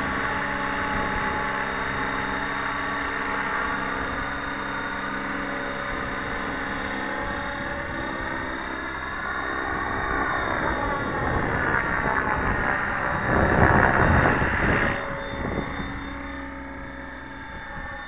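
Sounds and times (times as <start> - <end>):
model helicopter rotor whine: 0.0 - 18.0.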